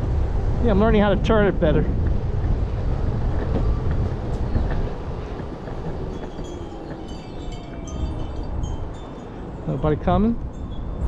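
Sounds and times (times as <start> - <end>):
skateboard wheels rolling on asphalt: 0.0 - 9.6
wind buffeting microphone: 0.0 - 11.0.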